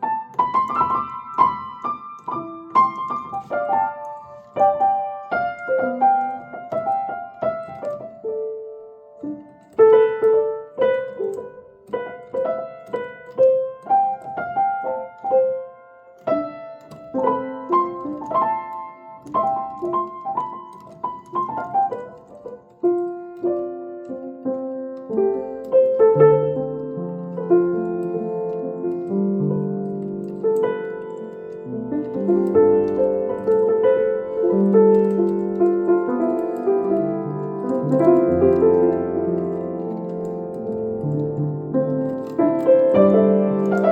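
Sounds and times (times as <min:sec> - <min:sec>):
grand piano playing: 0:00.0 - 0:43.9.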